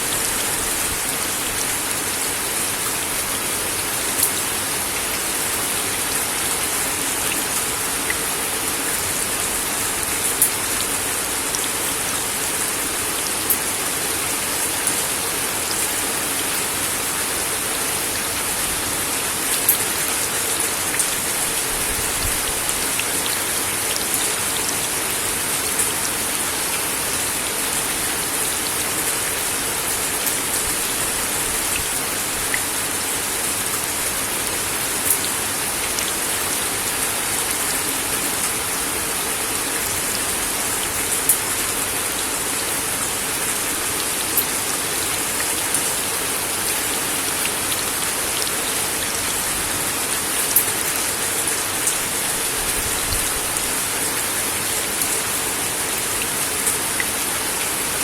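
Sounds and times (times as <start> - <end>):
rain hissing on wooden deck: 0.0 - 58.0.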